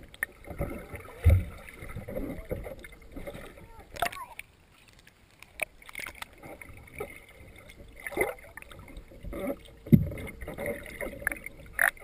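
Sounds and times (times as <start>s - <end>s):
muffled underwater churning: 0.0s - 12.0s.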